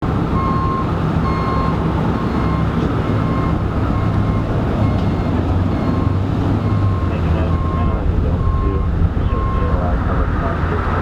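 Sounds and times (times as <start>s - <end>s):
engines rumbling: 0.0s - 11.0s
backup alarm beeping: 0.4s - 9.8s.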